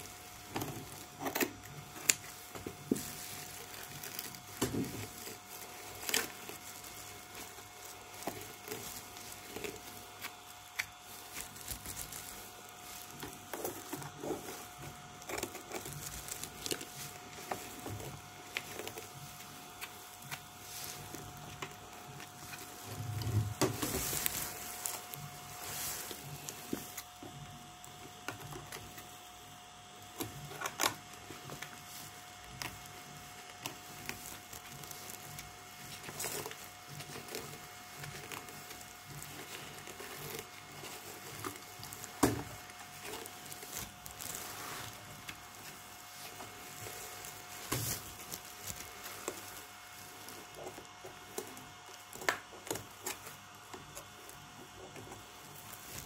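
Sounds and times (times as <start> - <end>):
clicks scrapes and rustles: 0.0 - 56.0
faint steady whine: 0.0 - 56.0.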